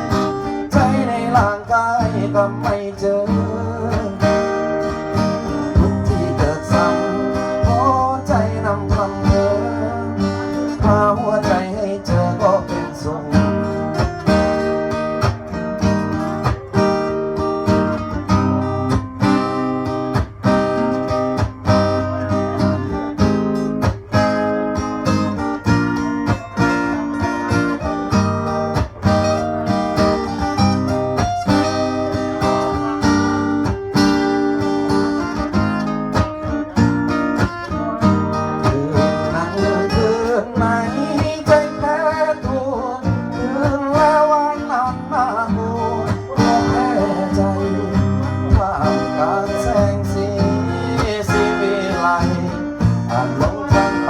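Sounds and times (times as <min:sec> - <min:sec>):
guitar-led band music: 0:00.0 - 0:54.0.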